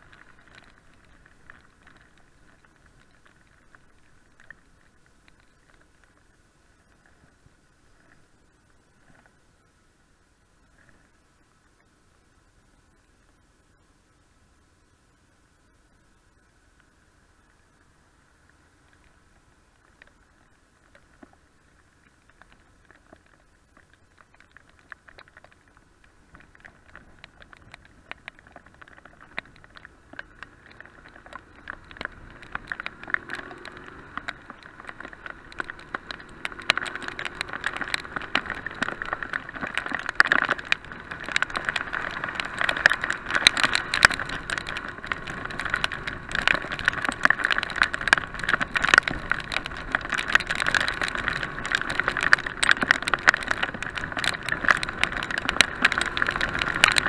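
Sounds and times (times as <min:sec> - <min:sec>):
rain striking camera: 0:00.0 - 0:09.4, 0:17.5 - 0:57.0.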